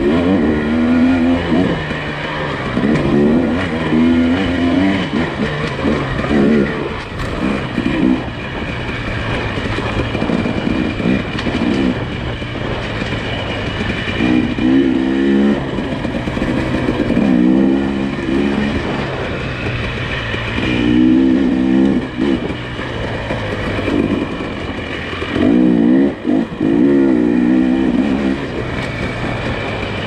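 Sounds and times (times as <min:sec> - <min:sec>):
car engine revving: 0:00.0 - 0:30.0
steady low hum: 0:00.0 - 0:30.0.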